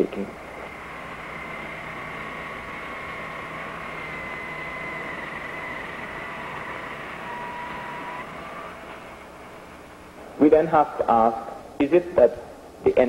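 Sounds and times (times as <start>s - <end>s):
machinery hissing hum with whine: 0.0s - 13.0s.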